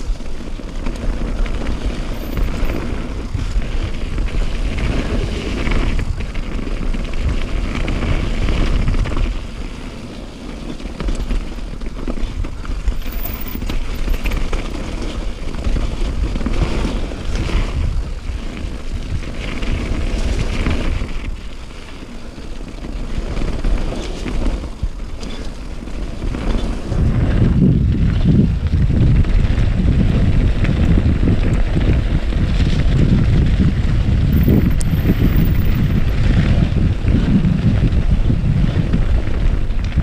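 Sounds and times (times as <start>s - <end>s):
vehicle running noise: 0.0s - 40.0s
wind rushing over microphone: 0.0s - 40.0s.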